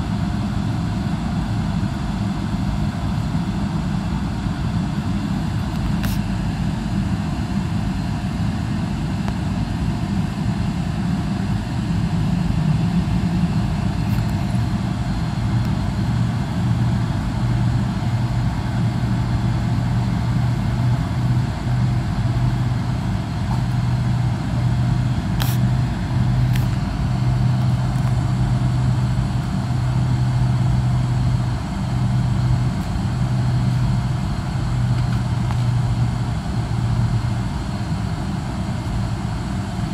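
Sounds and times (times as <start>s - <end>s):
aircraft cabin hum and rumble: 0.0s - 39.9s.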